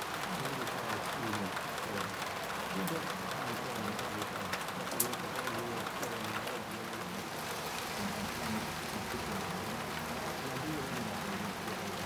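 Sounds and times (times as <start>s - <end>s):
rain hissing on wooden deck: 0.0s - 12.0s
raindrops ticking: 0.0s - 12.0s.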